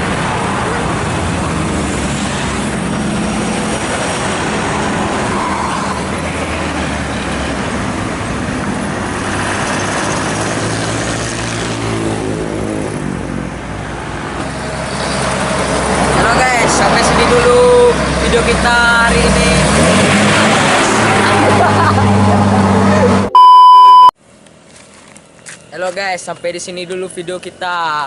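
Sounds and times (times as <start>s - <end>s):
heavy vehicle passing: 0.0s - 23.3s
tyre and road noise: 0.0s - 23.3s, 24.0s - 28.0s
truck and bus engines: 0.0s - 28.0s.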